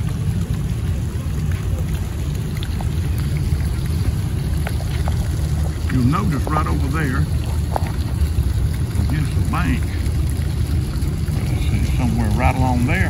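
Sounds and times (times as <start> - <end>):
low rumble: 0.0 - 13.0
pond fountain splashing: 0.0 - 13.0.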